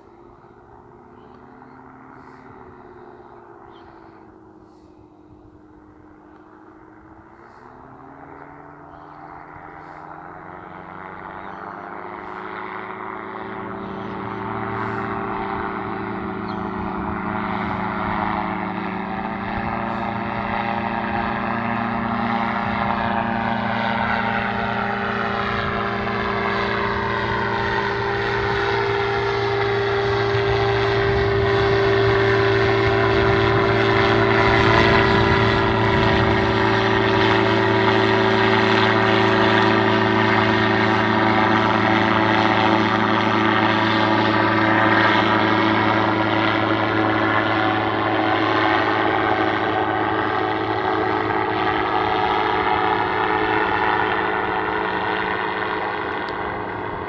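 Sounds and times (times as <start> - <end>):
paraglider engine droning: 0.0 - 57.0.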